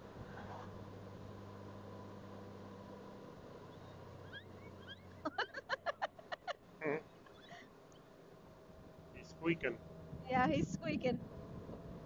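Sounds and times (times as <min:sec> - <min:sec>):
low motorcycle hum: 0:00.0 - 0:12.0.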